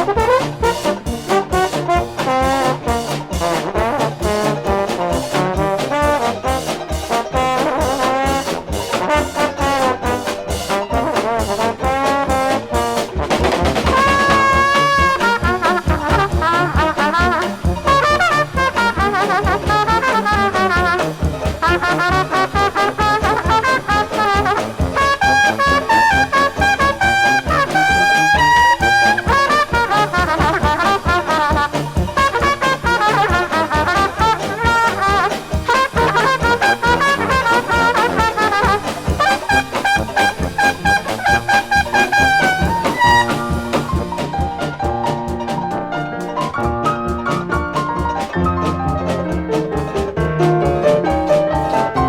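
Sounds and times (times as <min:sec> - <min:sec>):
jazz band playing: 0:00.0 - 0:52.0
trombone: 0:00.0 - 0:52.0
trumpet: 0:00.0 - 0:52.0.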